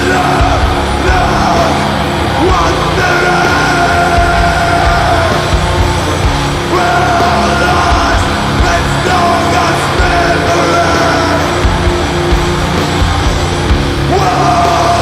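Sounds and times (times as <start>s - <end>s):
loud distorted metal band: 0.0s - 15.0s.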